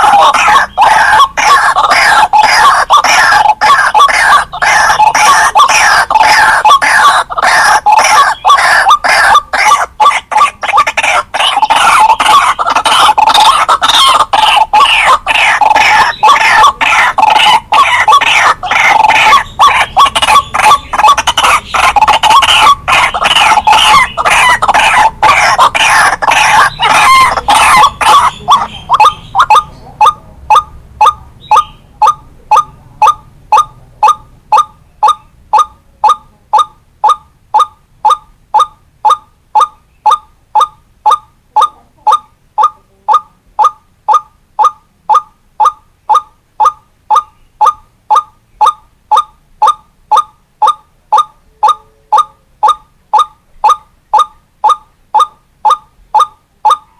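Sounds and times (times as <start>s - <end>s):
waterhen calling: 0.0s - 56.9s.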